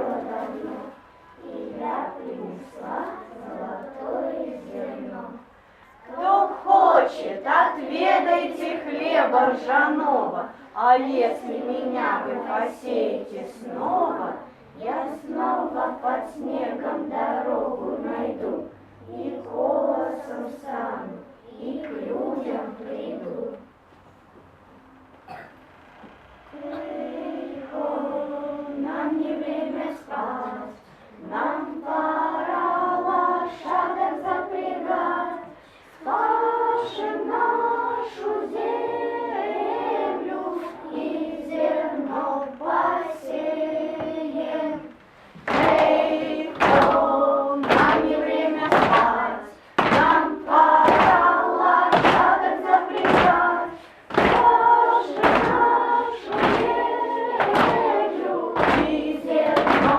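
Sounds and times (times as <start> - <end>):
children singing in unison: 0.0 - 23.7, 26.5 - 59.9.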